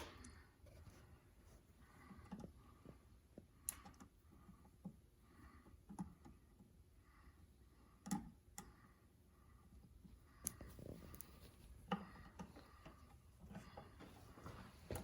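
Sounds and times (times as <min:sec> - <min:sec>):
faint clicks and taps: 0:00.0 - 0:06.9, 0:07.9 - 0:08.9, 0:09.6 - 0:15.0.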